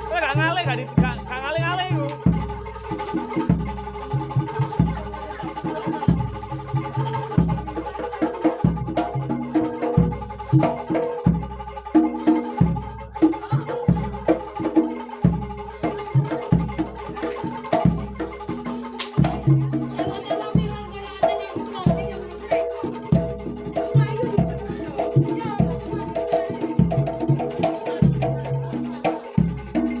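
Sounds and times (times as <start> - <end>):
hand drumming: 0.0 - 30.0
pitched metallic notes: 0.0 - 30.0.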